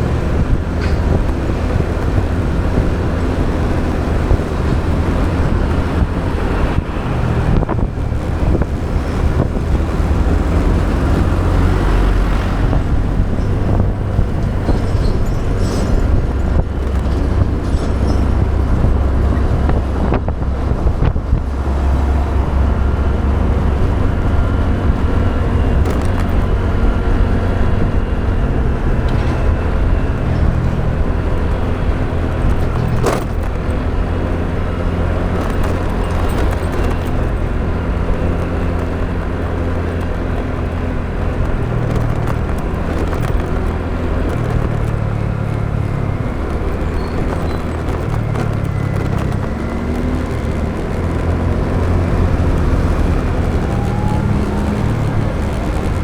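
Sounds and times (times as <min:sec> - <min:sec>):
motorbike engine: 0:00.0 - 0:56.0
wind and road noise: 0:00.0 - 0:56.0.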